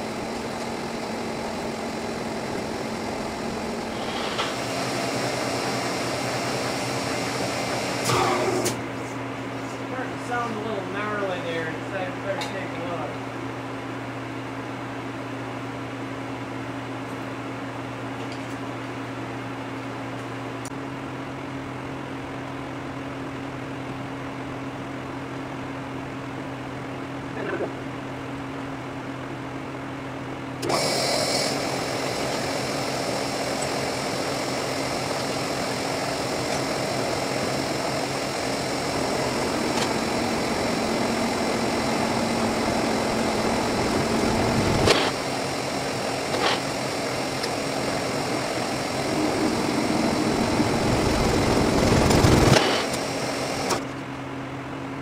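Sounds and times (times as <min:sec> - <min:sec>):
boring mill humming: 0:00.0 - 0:20.8, 0:21.6 - 0:54.5.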